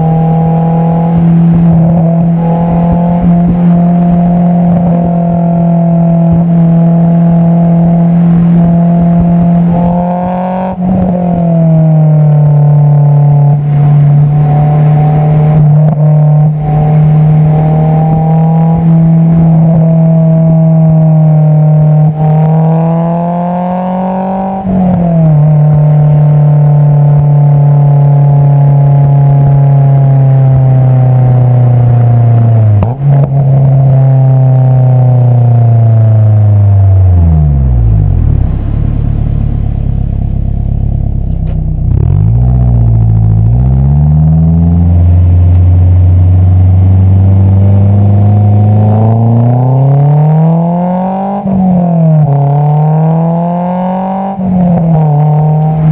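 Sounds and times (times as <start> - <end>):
car engine exhaust while driving: 0.0 - 55.9.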